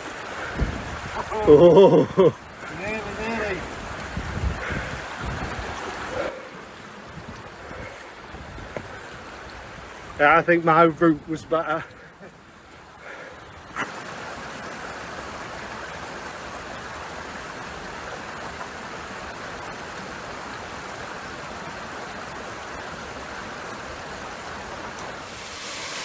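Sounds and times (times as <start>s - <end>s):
brook water rushing: 0.0s - 26.0s.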